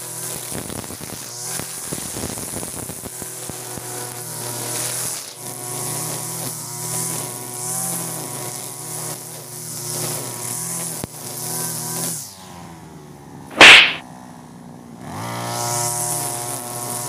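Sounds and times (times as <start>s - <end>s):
trimmer line cutting grass: 0.0s - 12.4s, 15.2s - 17.0s.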